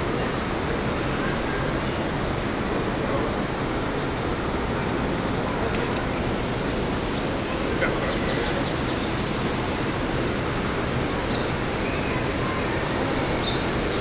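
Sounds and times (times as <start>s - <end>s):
murmur of huge crowd: 0.0s - 14.0s.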